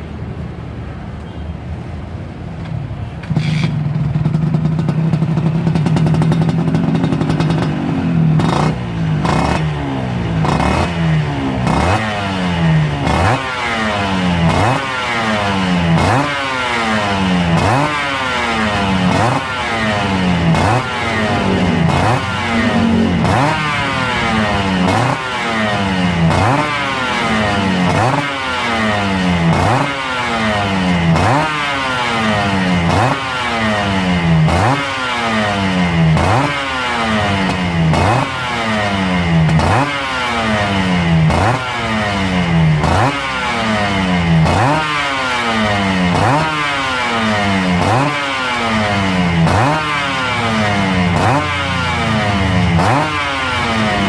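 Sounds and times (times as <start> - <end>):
engine revving in throttle blips: 3.3 - 54.0.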